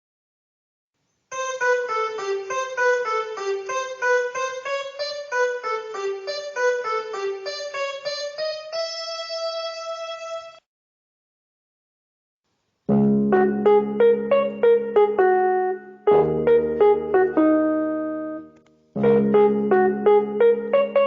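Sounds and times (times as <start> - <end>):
electronic keyboard melody: 1.3 - 10.6, 12.9 - 21.0.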